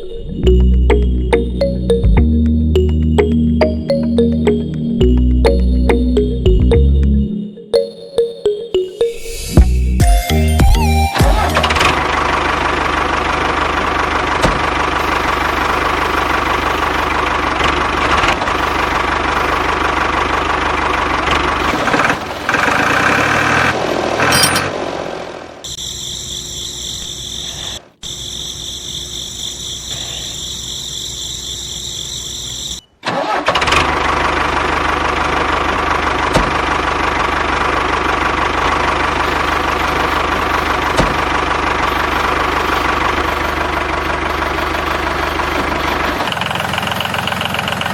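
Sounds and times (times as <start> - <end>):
engine running: 0.0 - 7.8, 8.8 - 28.2, 31.4 - 47.9.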